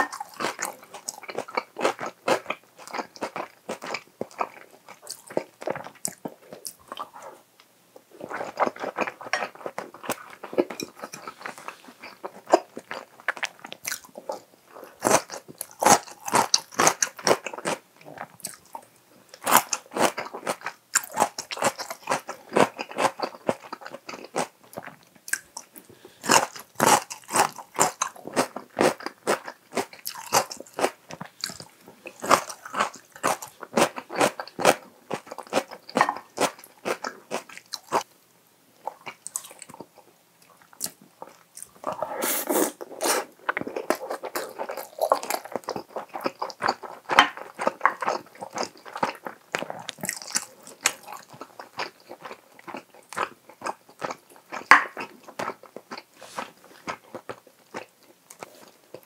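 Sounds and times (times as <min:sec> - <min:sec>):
crunchy chewing: 0:00.0 - 0:07.4, 0:08.2 - 0:38.1, 0:38.8 - 0:59.0.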